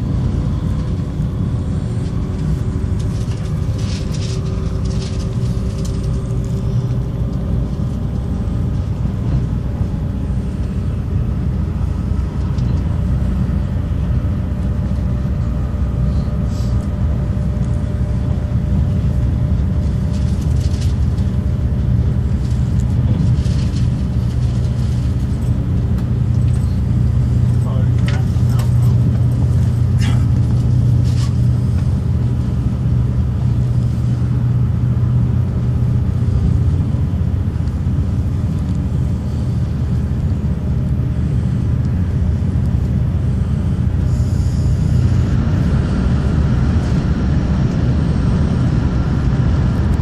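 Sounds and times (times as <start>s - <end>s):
faint humming tones: 0.0s - 50.0s
train rumbling: 0.0s - 50.0s.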